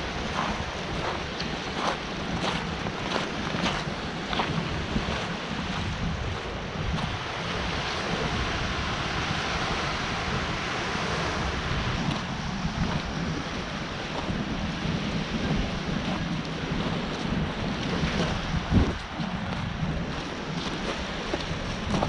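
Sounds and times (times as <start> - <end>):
sea waves on rocky shore: 0.0 - 22.0
wind buffeting microphone: 0.0 - 22.0.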